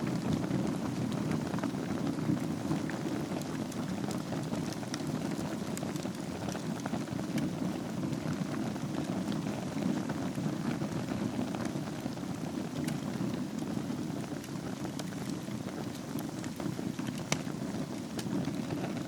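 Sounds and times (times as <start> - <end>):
fire crackles and pops: 0.0 - 19.0
fire flames rushing: 0.0 - 19.0.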